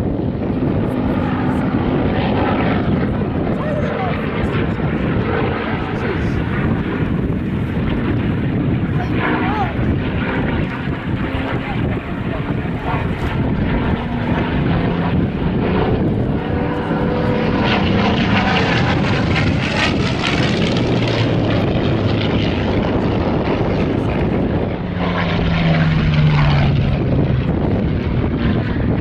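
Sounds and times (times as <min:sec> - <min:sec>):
aircraft piston engine running: 0:00.0 - 0:29.0.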